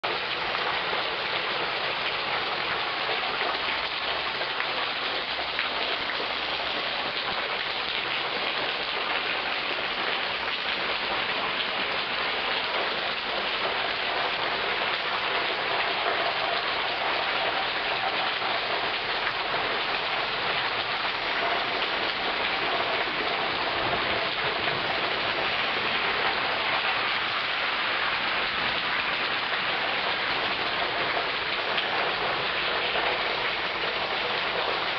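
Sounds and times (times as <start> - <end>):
rain pouring: 0.0 - 34.9.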